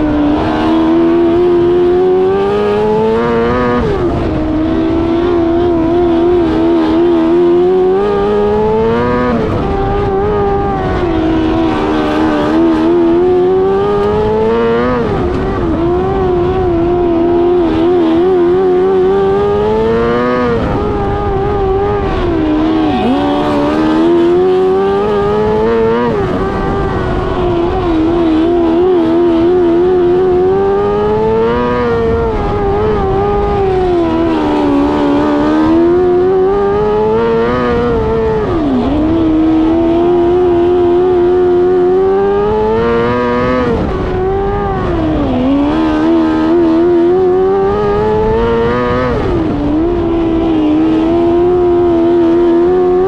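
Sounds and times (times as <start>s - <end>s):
racing engine rising and dropping: 0.0s - 53.0s.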